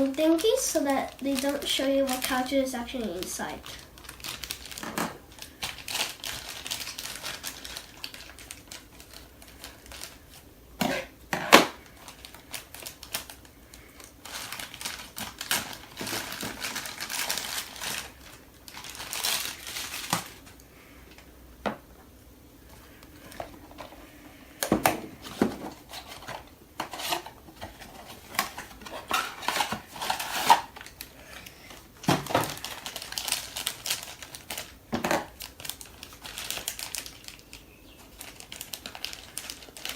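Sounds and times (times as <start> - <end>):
cardboard and wrapping crinkling: 0.0 - 20.6, 22.7 - 39.9.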